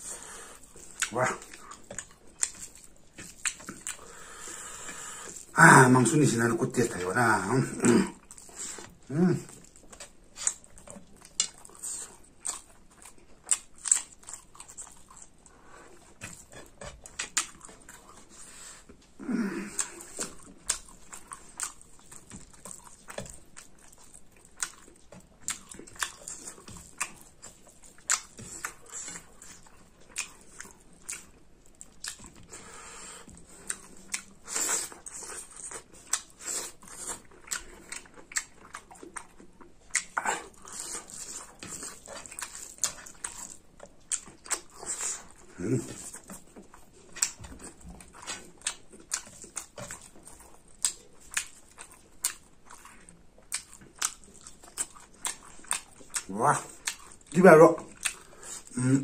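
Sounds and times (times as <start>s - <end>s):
wet chewing and lip smacking: 0.0s - 5.6s, 8.1s - 59.0s.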